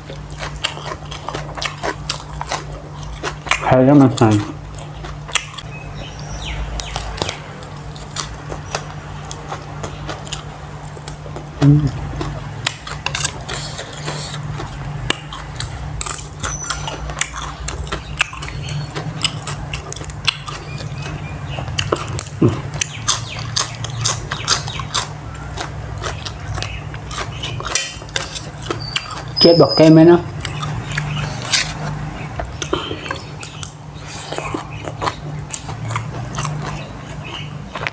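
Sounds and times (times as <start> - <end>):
chewing and crunching food: 0.0 - 37.9
steady low hum: 0.0 - 37.9.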